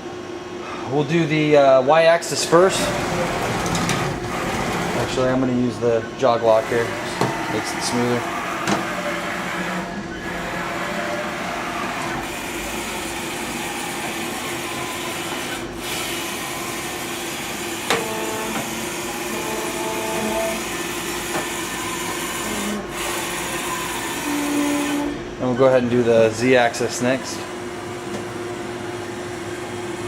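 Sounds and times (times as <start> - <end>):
milling machine hum: 0.0 - 30.0.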